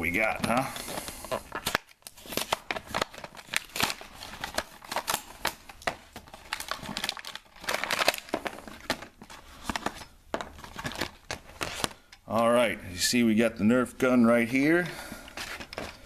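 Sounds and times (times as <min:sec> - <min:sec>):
plastic packaging crackling: 0:00.0 - 0:12.1, 0:15.2 - 0:16.0.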